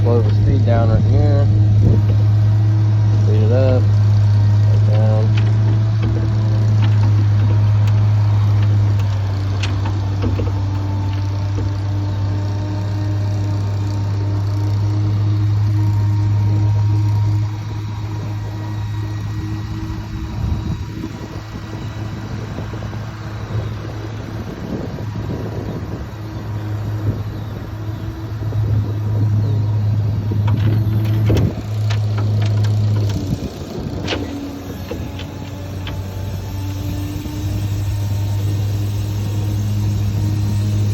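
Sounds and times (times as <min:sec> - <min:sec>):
faint hydraulic whine: 0:00.0 - 0:40.9
truck engine running: 0:00.0 - 0:40.9.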